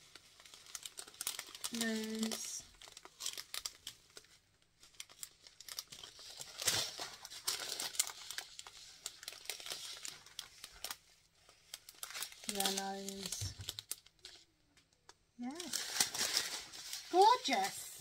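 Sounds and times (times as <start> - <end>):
plastic bags crinkling: 0.0 - 14.5, 15.4 - 18.0.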